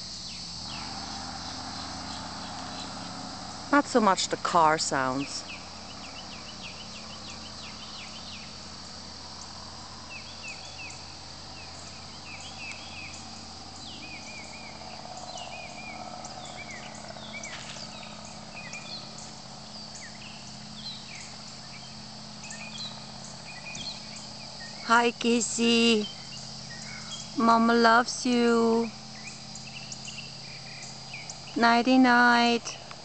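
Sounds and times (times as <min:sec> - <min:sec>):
birds chirping: 0:00.0 - 0:33.0
cicadas and insects droning: 0:00.0 - 0:33.0
low steady hum: 0:00.0 - 0:33.0.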